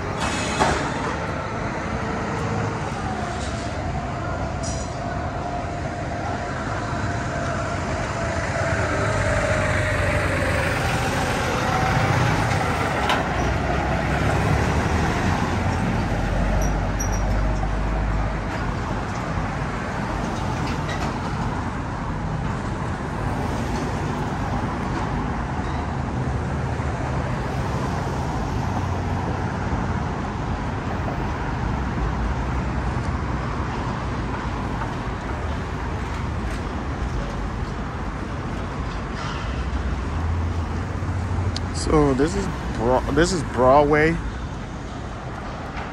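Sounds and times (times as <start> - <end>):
cars passing: 0.0 - 45.9.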